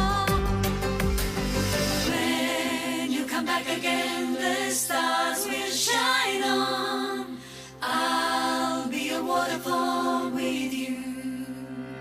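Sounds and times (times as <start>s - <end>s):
women singing in harmony: 0.0s - 0.6s, 2.1s - 12.0s.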